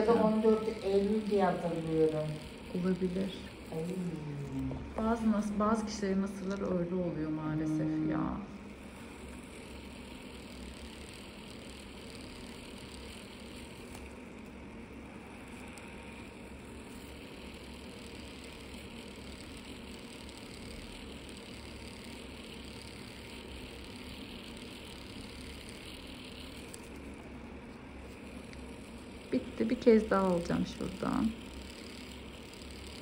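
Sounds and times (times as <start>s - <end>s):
electric drill grinding: 0.0s - 33.0s.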